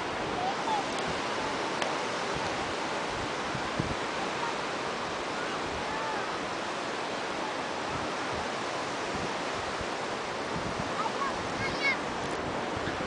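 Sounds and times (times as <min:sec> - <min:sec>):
ocean waves on beach: 0:00.0 - 0:13.0
wind buffeting microphone: 0:00.0 - 0:13.0.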